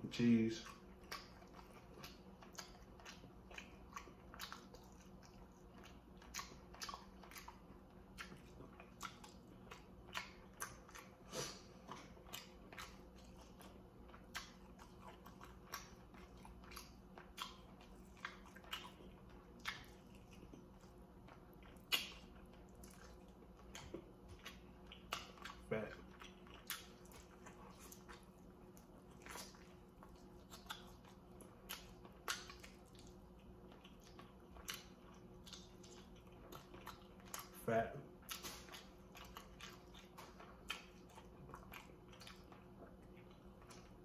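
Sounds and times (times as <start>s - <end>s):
chewing clicks and smacks: 0.1s - 44.0s.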